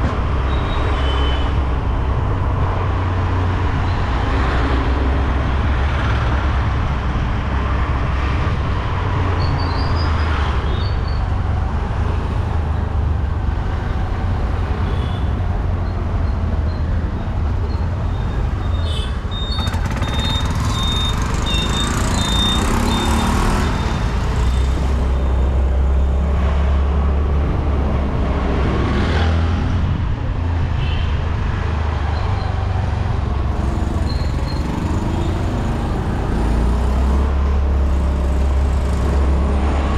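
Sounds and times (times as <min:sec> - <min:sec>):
road vehicle rumble: 0:00.0 - 0:39.9.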